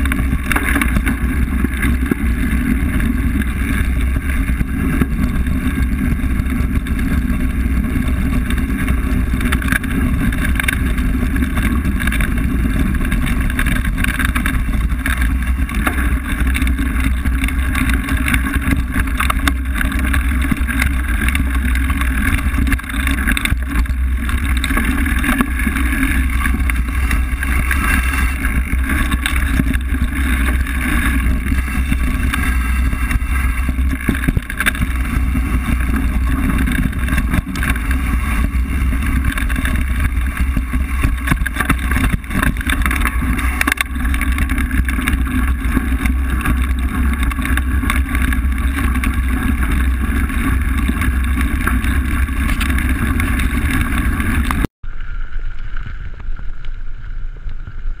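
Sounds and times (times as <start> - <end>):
bike rattling over dirt trail: 0.0 - 58.0
wind buffeting microphone: 0.0 - 58.0.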